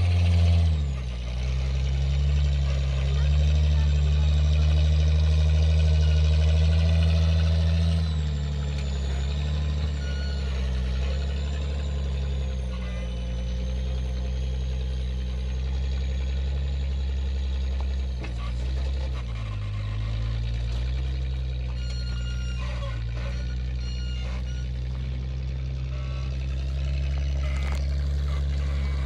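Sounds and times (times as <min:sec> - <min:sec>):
buggy engine running under load: 0:00.0 - 0:29.0.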